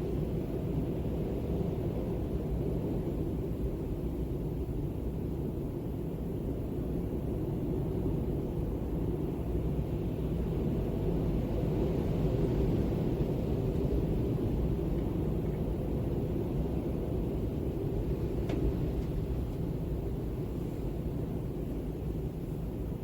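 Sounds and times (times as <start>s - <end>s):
steady low wind: 0.0s - 23.0s.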